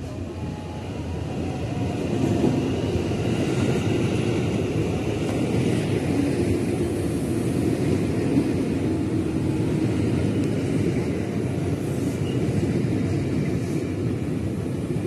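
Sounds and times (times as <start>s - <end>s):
electric train running past: 0.0s - 15.0s.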